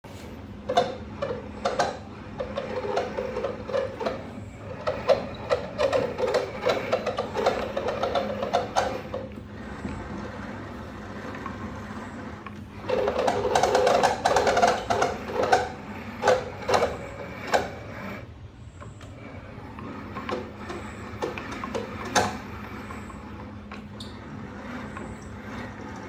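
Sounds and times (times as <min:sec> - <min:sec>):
kayak pedal drive squeaking: 0:00.7 - 0:26.0.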